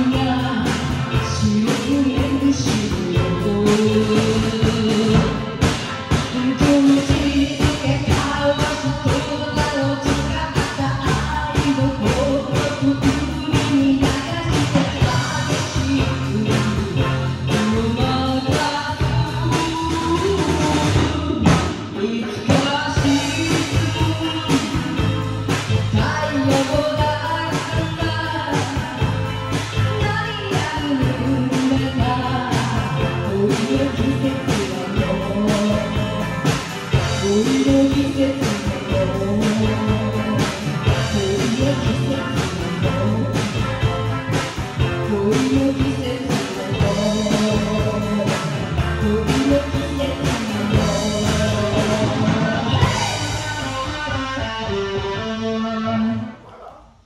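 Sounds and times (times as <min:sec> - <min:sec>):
woman singing: 0:00.0 - 0:56.3
rock band playing: 0:00.0 - 0:56.4.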